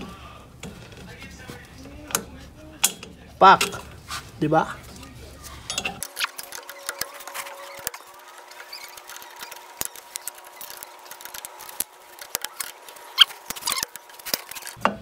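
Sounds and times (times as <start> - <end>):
faint steady hum: 0.0 - 15.0
small metallic clicks and scrapes: 0.6 - 15.0.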